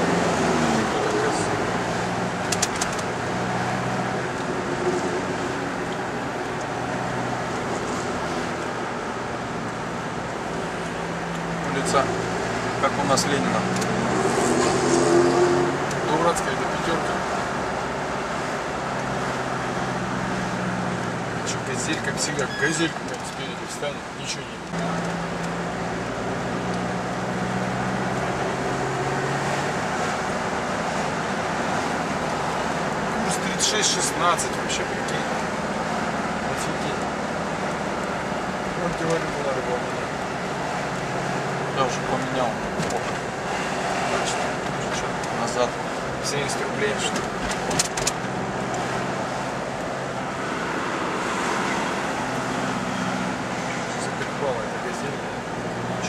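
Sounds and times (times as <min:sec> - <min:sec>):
car engine hum and road noise: 0:00.0 - 0:56.0.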